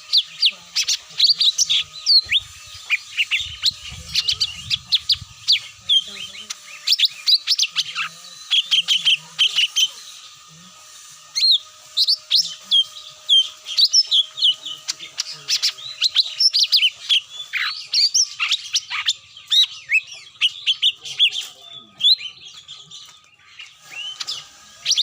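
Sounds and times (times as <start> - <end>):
fast high bird chirps and whistles: 0.0 - 25.0.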